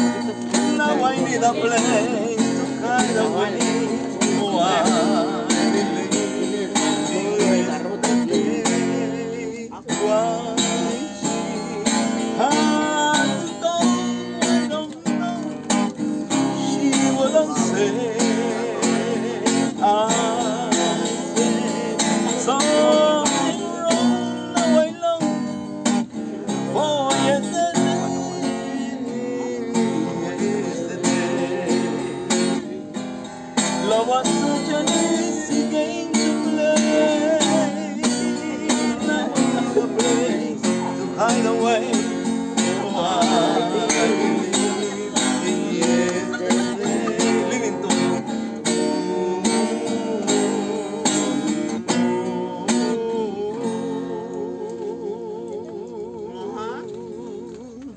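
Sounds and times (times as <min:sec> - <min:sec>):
acoustic guitar: 0:00.0 - 0:57.9
man singing: 0:00.0 - 0:57.9.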